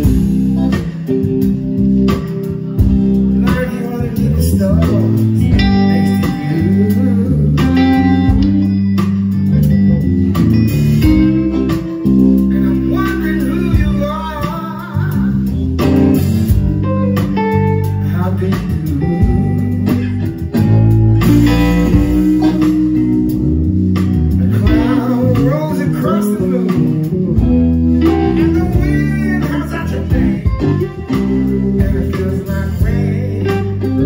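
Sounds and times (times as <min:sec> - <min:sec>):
bass guitar: 0:00.0 - 0:34.0
drums: 0:00.0 - 0:34.0
electric guitars: 0:00.0 - 0:34.0.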